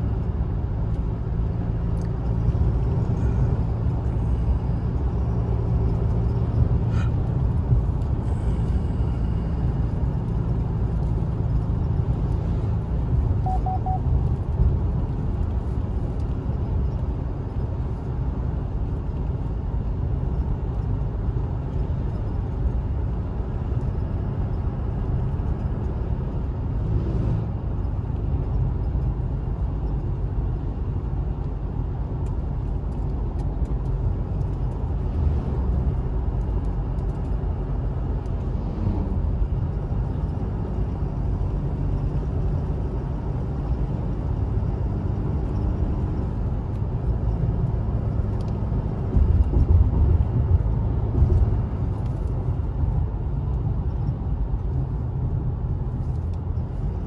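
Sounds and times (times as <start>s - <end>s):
car cabin rumble of engine and tyres: 0.0s - 57.0s.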